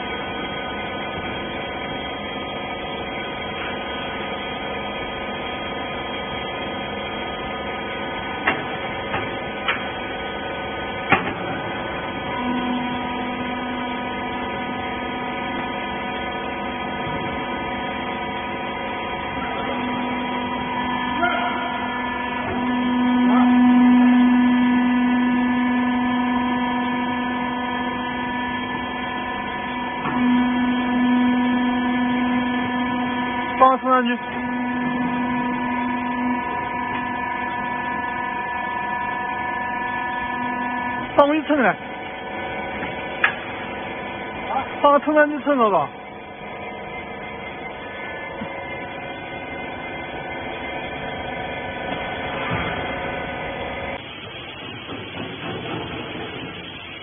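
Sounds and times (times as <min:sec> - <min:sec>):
hydraulic power unit humming: 0:00.0 - 0:57.0.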